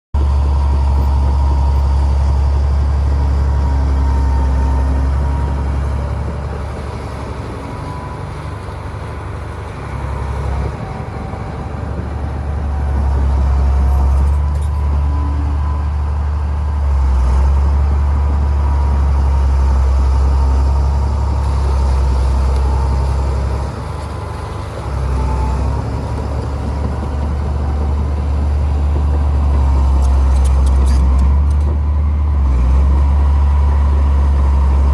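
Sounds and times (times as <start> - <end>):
diesel machinery engine drone: 0.2 - 34.9.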